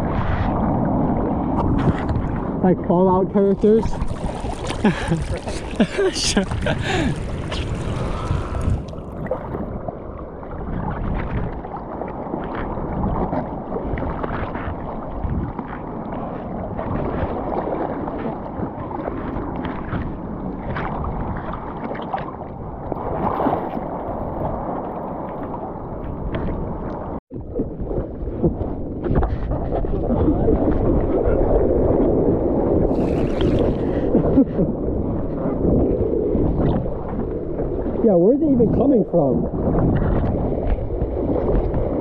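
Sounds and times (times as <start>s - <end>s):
seawater sloshing and splashing: 0.0s - 2.6s, 3.4s - 42.0s.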